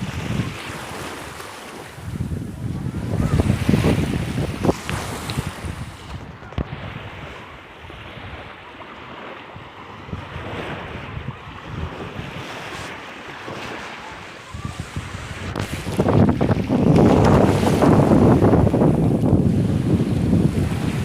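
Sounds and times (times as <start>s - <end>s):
sea waves washing: 0.0s - 21.0s
wind rumbling on microphone: 0.0s - 21.0s.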